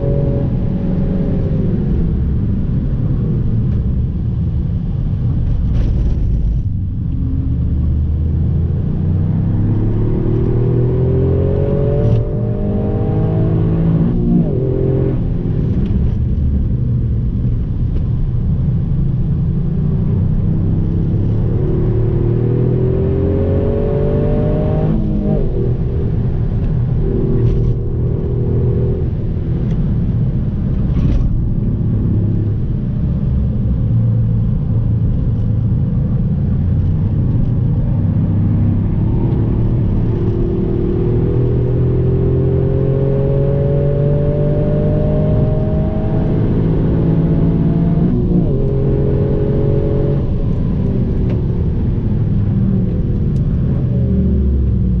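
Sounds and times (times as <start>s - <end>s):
car engine revving: 0.0s - 55.0s
road noise inside car: 0.0s - 55.0s.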